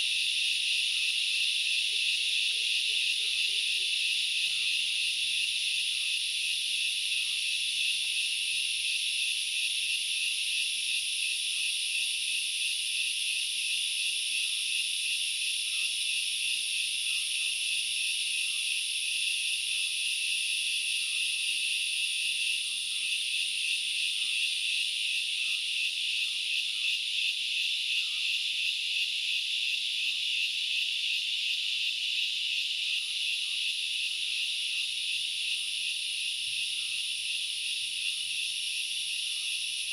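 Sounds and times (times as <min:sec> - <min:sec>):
insects singing chorus: 0:00.0 - 0:39.9.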